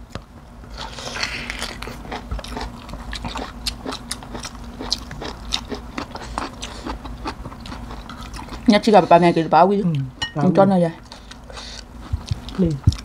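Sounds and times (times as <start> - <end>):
faint steady hum: 0.0 - 13.0
people chewing food: 0.1 - 13.0.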